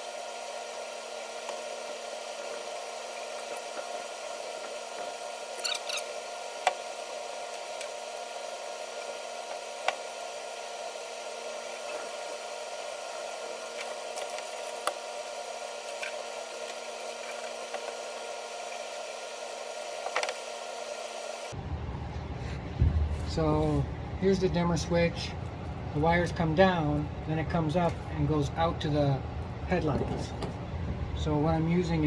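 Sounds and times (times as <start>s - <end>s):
electric fan whirring: 0.0s - 32.0s.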